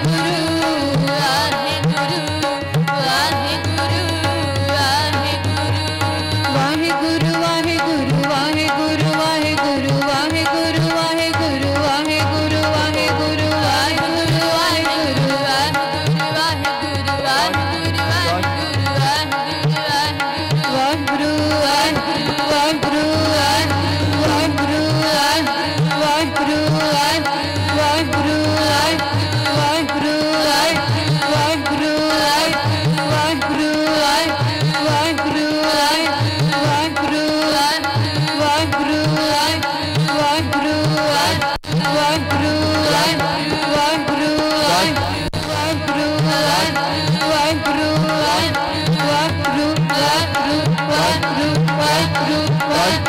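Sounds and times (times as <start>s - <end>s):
harmonium melody: 0.0s - 53.0s
tabla drumming: 0.0s - 53.0s.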